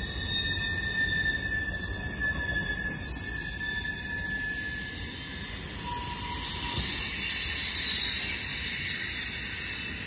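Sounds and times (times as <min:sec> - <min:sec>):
low train rumble: 0:00.0 - 0:10.0
train wheels squealing on rail: 0:00.0 - 0:10.0.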